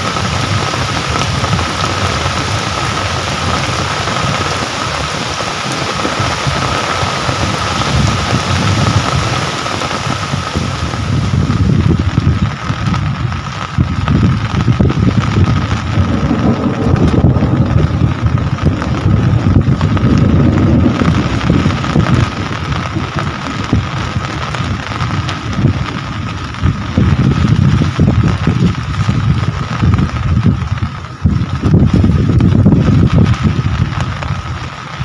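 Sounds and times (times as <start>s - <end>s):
steady rain hissing: 0.0s - 35.0s
wind buffeting microphone: 0.0s - 35.0s.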